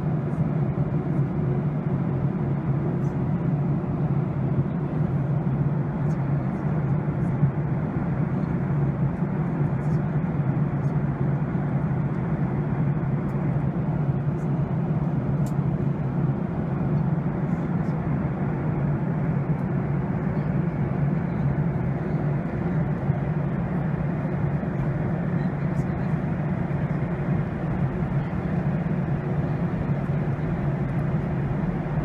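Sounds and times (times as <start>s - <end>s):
jet engine roar in cabin: 0.0s - 32.0s.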